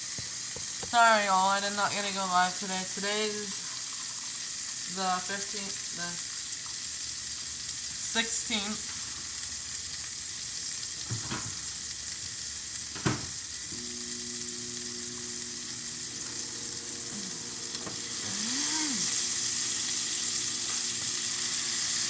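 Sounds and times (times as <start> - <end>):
patties sizzling in a frying pan: 0.0 - 22.0.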